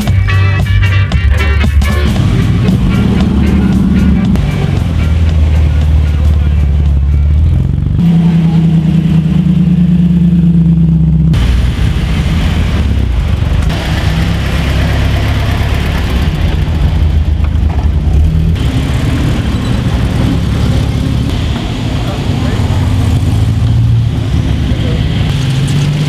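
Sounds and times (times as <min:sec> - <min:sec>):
classic car engines passing slowly: 0:00.0 - 0:26.0.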